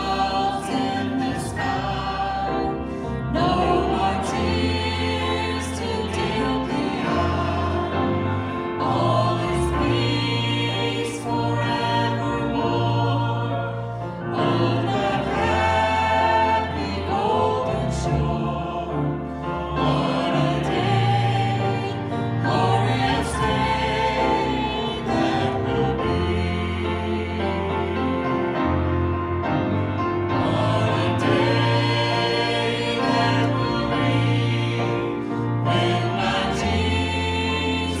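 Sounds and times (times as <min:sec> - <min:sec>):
instrumental accompaniment: 0:00.0 - 0:38.0
people singing a gospel song: 0:00.0 - 0:38.0.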